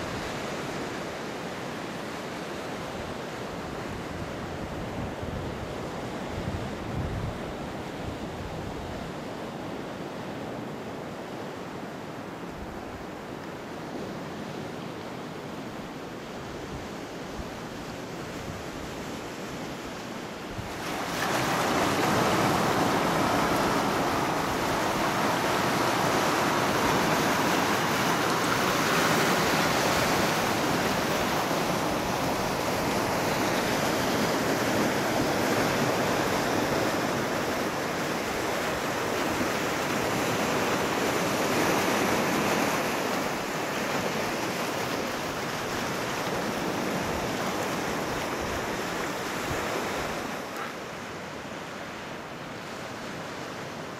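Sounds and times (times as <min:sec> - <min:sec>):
surf washing over rocks: 0:00.0 - 0:53.9.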